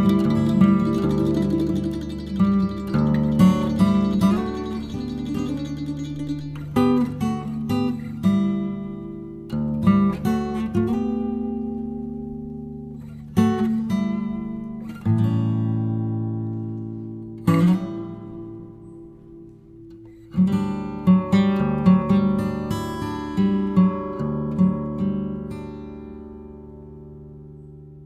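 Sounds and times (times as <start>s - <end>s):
acoustic guitar strumming: 0.0s - 27.9s.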